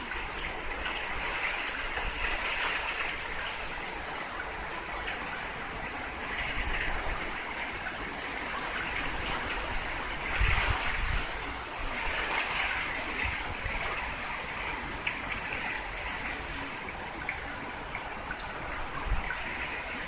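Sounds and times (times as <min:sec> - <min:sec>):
wind and rain through window gap: 0:00.0 - 0:20.0
wind buffeting microphone: 0:00.0 - 0:20.0.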